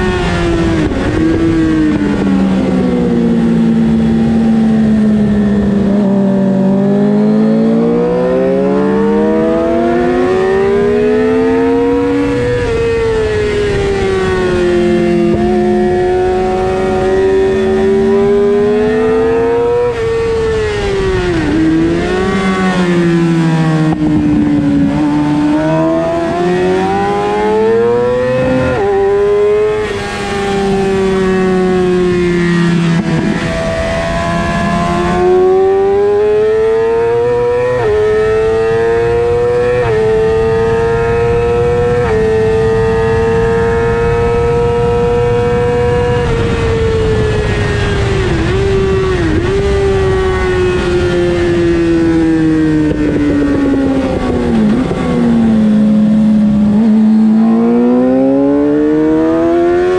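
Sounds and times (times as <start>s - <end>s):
motorcycle engine revving: 0.0s - 59.9s
wind rushing over microphone: 9.0s - 59.9s.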